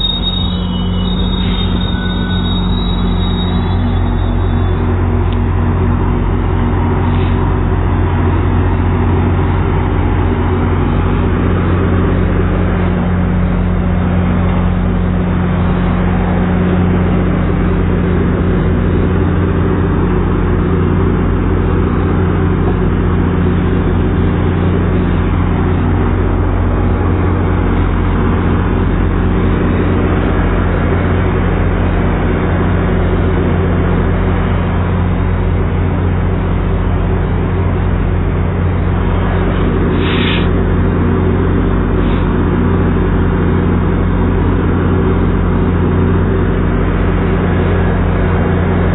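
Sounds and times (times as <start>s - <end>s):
diesel train idling hum: 0.0s - 48.9s.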